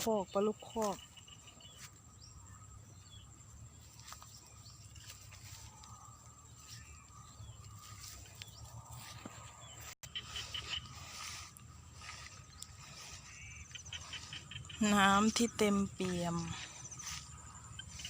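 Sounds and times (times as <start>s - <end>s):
frogs and insects calling: 0.0s - 18.0s.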